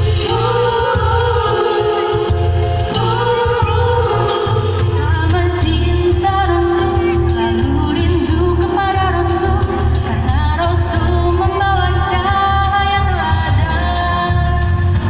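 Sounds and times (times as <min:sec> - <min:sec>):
backing music with pulsing bass: 0:00.0 - 0:15.0
group of voices singing: 0:00.0 - 0:15.0.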